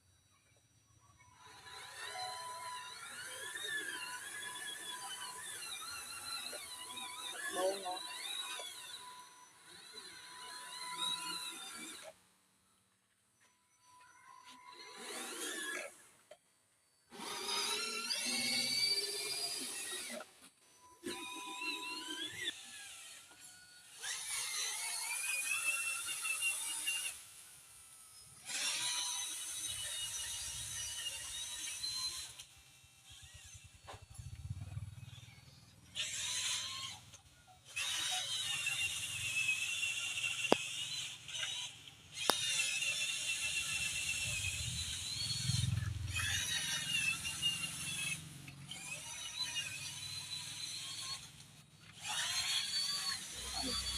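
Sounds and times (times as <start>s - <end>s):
toy car electric motor whining: 0.0s - 53.9s.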